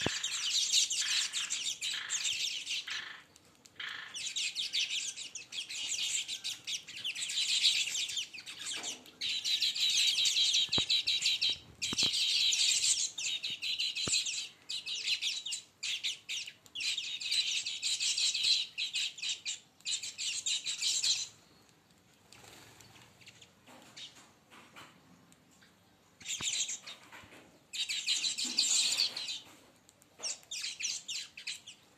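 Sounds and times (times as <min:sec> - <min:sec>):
birds chirping in a flock: 0:00.0 - 0:31.9.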